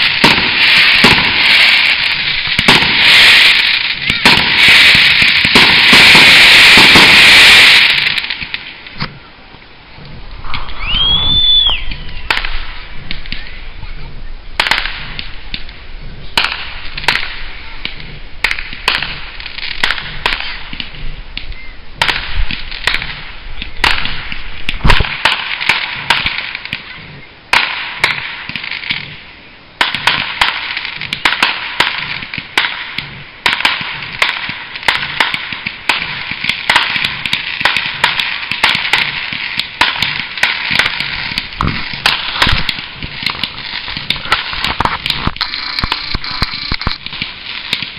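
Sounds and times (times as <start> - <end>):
fireworks bangs and cracks: 0.0 - 9.2, 10.1 - 29.2, 29.8 - 47.9
fireworks crackling hiss: 0.0 - 47.9.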